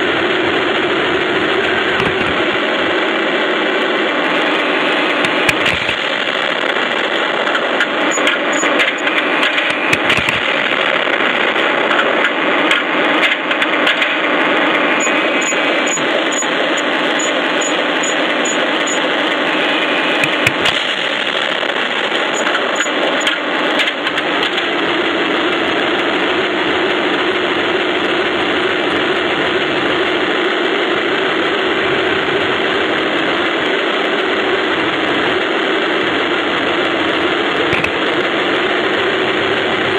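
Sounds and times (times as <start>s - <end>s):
model tank motor and tracks: 0.0s - 39.9s.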